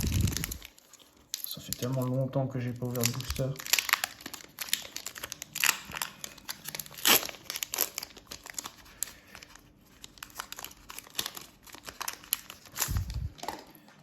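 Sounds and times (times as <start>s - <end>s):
foil wrapper crinkling and tearing: 0.0s - 13.6s.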